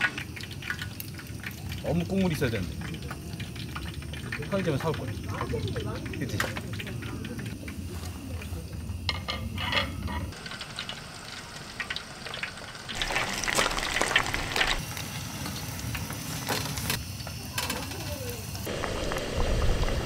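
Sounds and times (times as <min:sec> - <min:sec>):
deep-frying sizzling and bubbling: 0:00.0 - 0:20.0.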